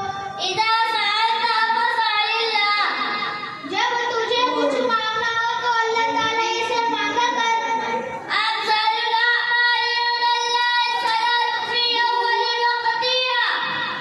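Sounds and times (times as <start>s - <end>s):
boys chanting in sing-song voices: 0.0s - 14.0s.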